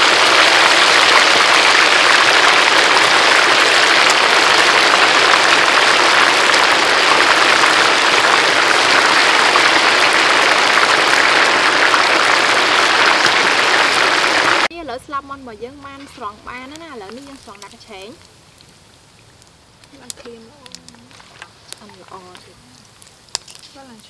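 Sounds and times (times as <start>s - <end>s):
chicken wings deep-frying in oil: 0.0s - 24.0s.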